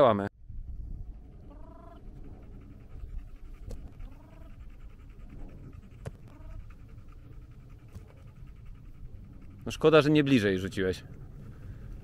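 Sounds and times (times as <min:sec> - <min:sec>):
wind rumbling on microphone: 0:00.4 - 0:12.0.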